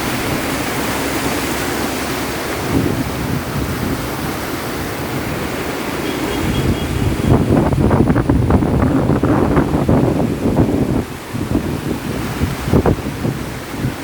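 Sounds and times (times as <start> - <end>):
floodwater rushing: 0.0 - 14.0
wind buffeting microphone: 0.0 - 14.0.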